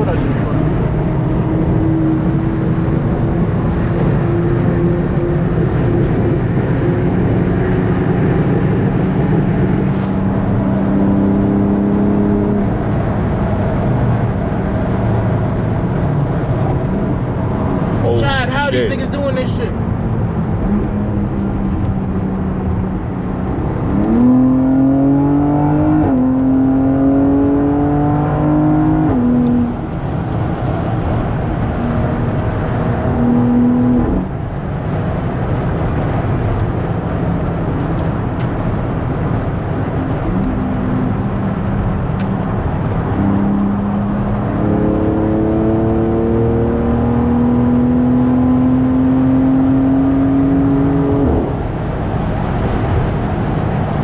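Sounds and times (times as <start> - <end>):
car engine accelerating: 0.0 - 54.0
road and tyre noise: 0.0 - 54.0.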